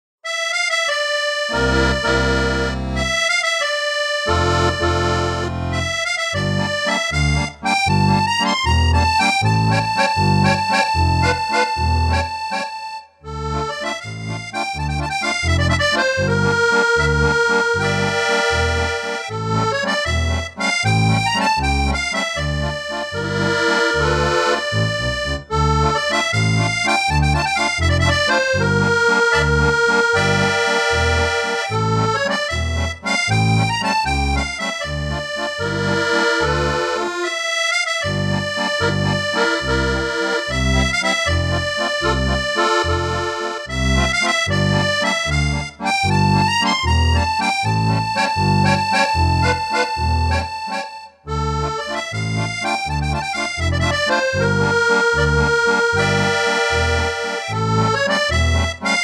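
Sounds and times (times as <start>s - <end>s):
accordion playing: 0.2s - 59.0s.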